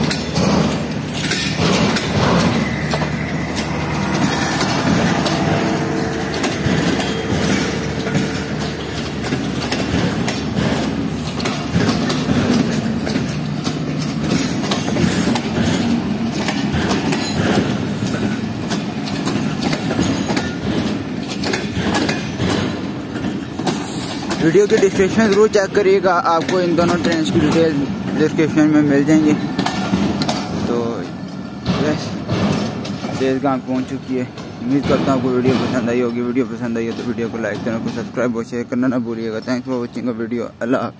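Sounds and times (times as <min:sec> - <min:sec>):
train coaches rumbling past: 0:00.0 - 0:40.9
wheel clicks over rail joints: 0:00.0 - 0:40.9.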